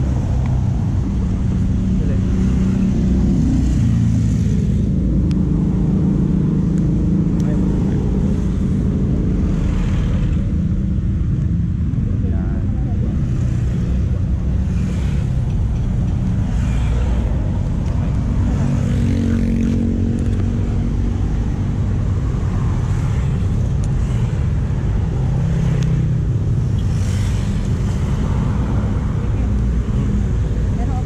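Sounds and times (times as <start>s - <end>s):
motorcycle engine rumble: 0.0s - 31.0s
road noise: 0.0s - 31.0s.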